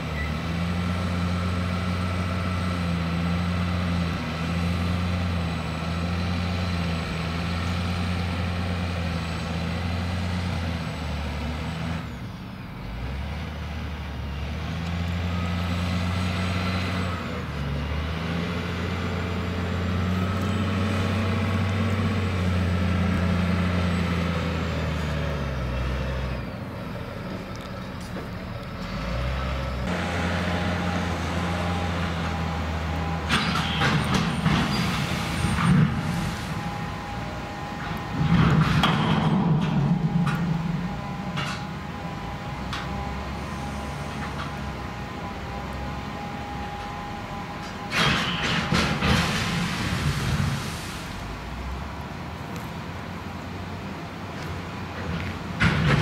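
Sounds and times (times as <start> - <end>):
heavy train engine running: 1.1 - 56.0.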